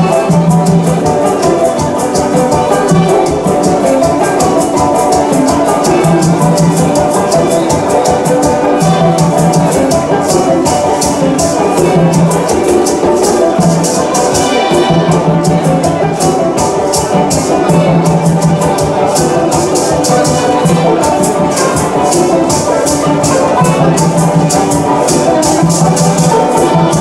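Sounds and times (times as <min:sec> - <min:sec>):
maracas shaking: 0:00.0 - 0:27.0
small band playing upbeat music: 0:00.0 - 0:27.0.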